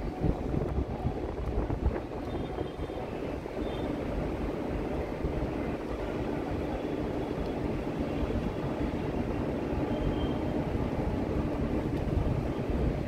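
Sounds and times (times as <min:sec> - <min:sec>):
electric train running on track: 0:00.0 - 0:13.0.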